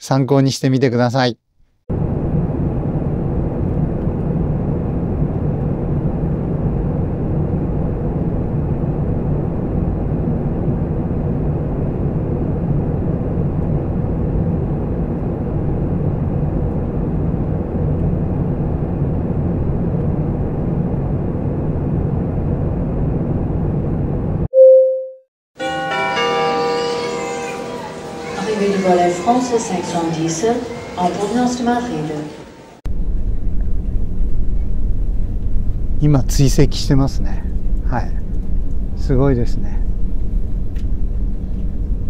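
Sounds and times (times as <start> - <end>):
distant jet engines rumbling: 1.9 - 24.4, 28.4 - 42.0.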